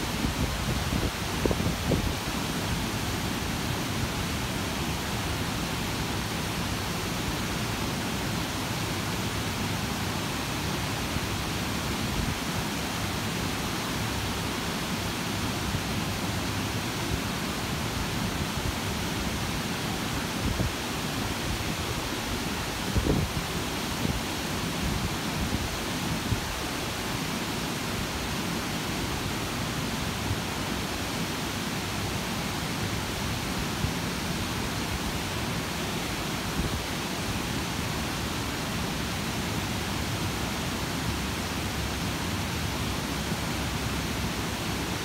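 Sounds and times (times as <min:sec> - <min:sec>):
water cascading down fountain steps: 0:00.0 - 0:45.0.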